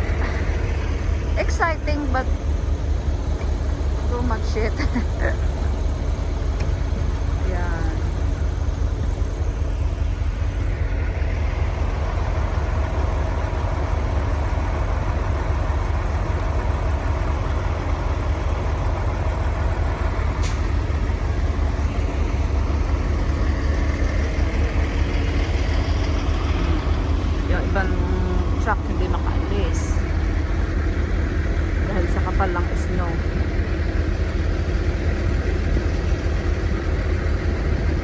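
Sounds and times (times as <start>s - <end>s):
diesel truck engine rumbling: 0.0s - 38.0s.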